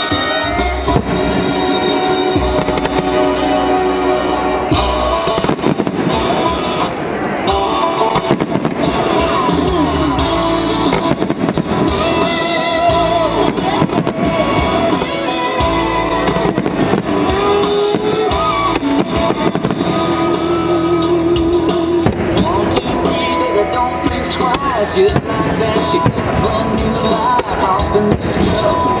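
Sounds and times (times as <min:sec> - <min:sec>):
fireworks bangs and crackles: 0:00.0 - 0:29.0
music with long held notes: 0:00.0 - 0:29.0.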